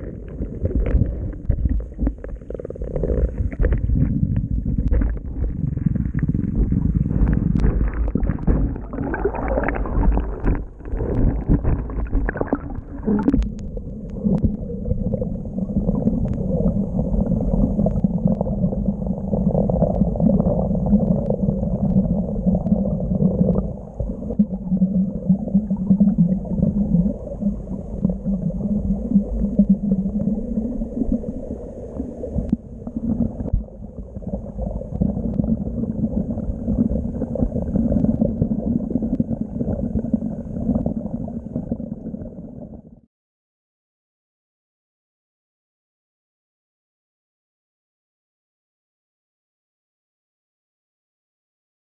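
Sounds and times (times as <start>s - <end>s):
muffled underwater river rushing: 0.0s - 43.1s.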